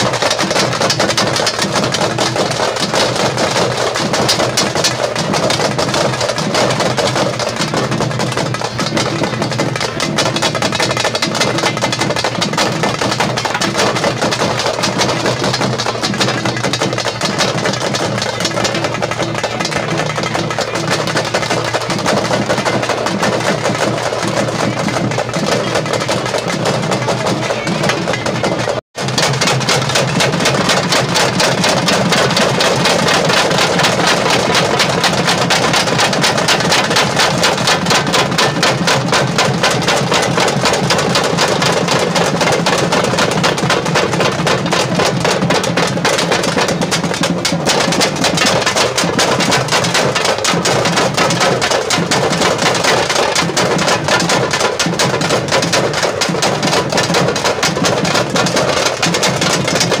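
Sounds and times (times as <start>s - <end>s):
barrel drums beaten fast: 0.0s - 60.0s.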